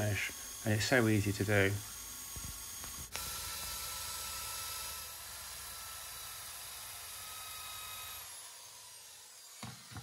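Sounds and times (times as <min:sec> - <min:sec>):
electric drill running: 0:00.0 - 0:10.0.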